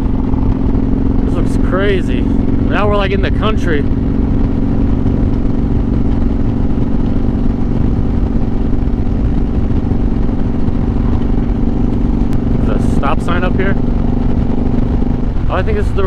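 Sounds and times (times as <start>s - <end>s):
motorcycle engine cruising: 0.0s - 16.0s
wind rushing over microphone: 0.0s - 16.0s.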